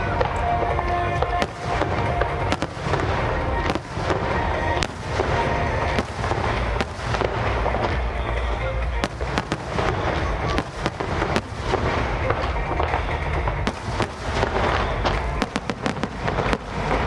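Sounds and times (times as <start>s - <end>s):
firework bangs: 0.0s - 17.0s
fireworks crackling: 0.0s - 17.0s.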